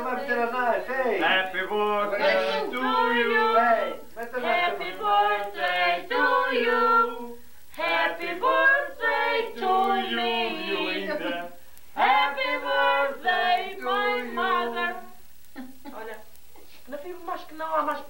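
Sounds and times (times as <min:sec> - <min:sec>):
group singing unaccompanied: 0:00.0 - 0:15.2.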